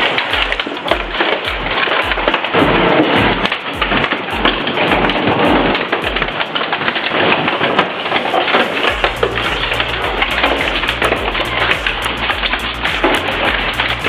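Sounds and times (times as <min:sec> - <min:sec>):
background music low beat: 0:00.0 - 0:06.9, 0:08.8 - 0:14.0.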